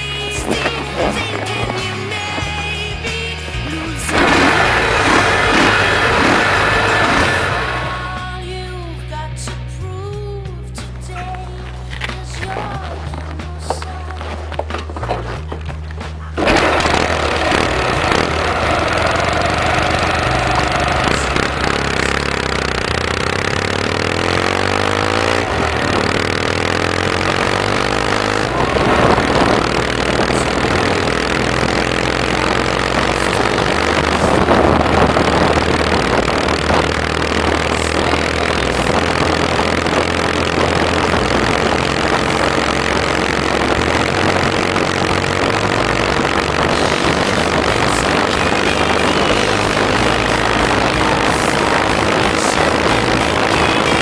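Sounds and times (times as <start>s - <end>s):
wind and road noise: 0.0s - 8.4s, 11.7s - 54.0s
motorcycle engine revving: 0.0s - 8.8s, 9.8s - 54.0s.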